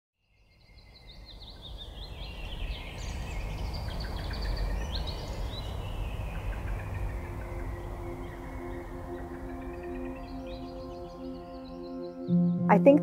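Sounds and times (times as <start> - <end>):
birds chirping: 0.4 - 13.0.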